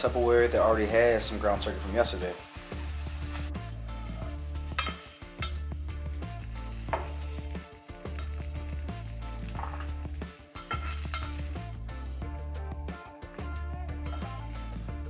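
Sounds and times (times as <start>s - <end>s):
background music with bass line: 0.0s - 15.0s
spatula scraping skillet: 0.1s - 12.0s, 13.9s - 14.9s.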